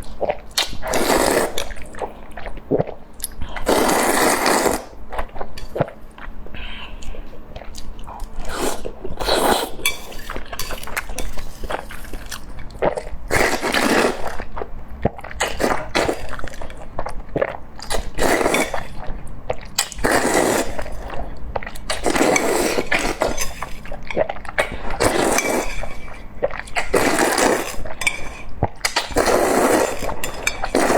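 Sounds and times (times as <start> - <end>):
person chewing and crunching food: 0.0 - 30.9.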